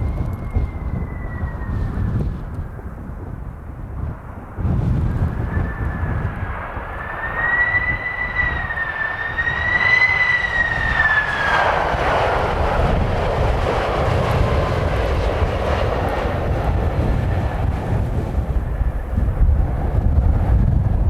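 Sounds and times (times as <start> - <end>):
jet engine rush: 0.0 - 21.0
jet engine whine: 0.0 - 21.0
low rumble of wind: 0.0 - 21.0.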